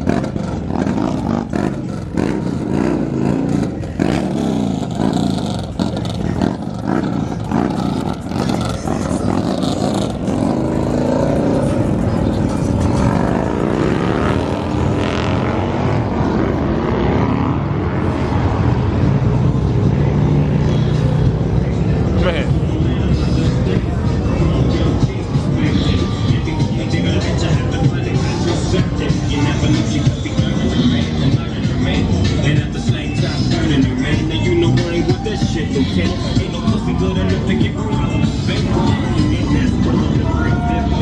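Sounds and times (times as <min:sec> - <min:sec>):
vehicle engines revving: 0:00.0 - 0:41.0.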